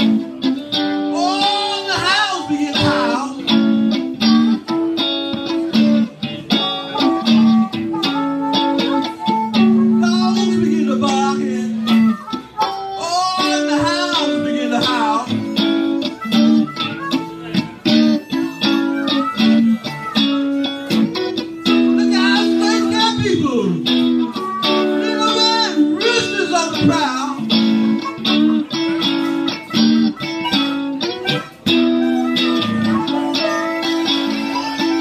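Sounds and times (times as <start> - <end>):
electric guitar blues: 0.0 - 35.0
harmonica bending notes: 0.0 - 35.0.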